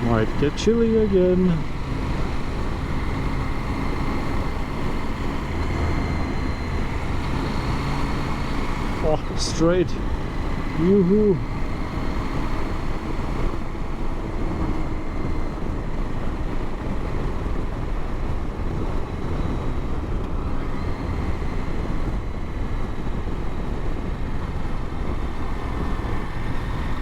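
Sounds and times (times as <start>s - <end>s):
motorcycle engine running: 0.0s - 27.0s
road noise: 0.0s - 27.0s
wind noise: 0.0s - 27.0s.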